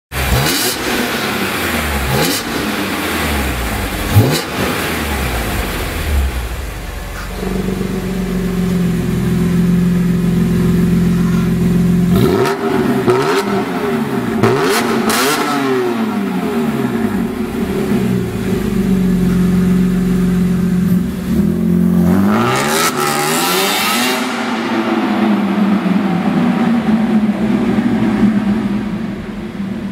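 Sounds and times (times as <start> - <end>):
car engine revving: 0.1 - 29.9.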